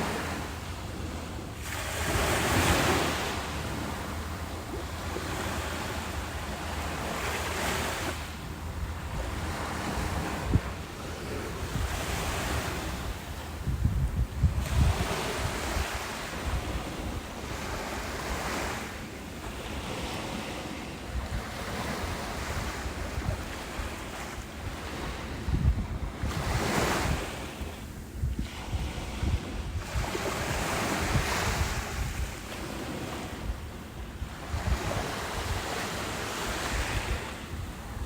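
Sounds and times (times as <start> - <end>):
wind buffeting microphone: 0.0 - 18.9, 19.6 - 38.0
ocean surf breaking on a beach: 0.0 - 38.0.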